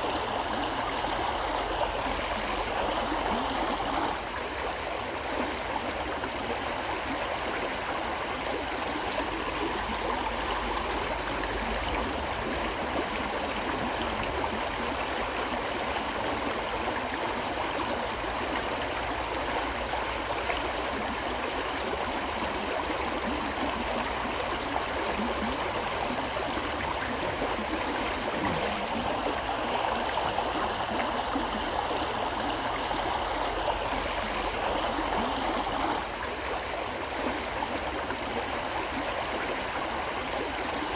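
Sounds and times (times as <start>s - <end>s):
stream water rushing and gurgling: 0.0s - 40.9s.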